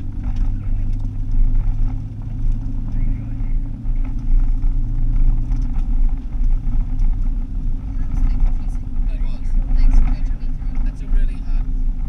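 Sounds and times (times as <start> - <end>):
car engine and tyre drone: 0.0 - 12.0
light ticks and rattles: 0.0 - 12.0.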